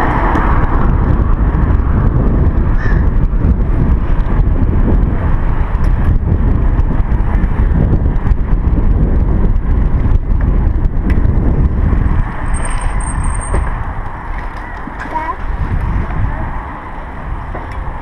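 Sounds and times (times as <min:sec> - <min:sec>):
wind buffeting: 0:00.0 - 0:18.0.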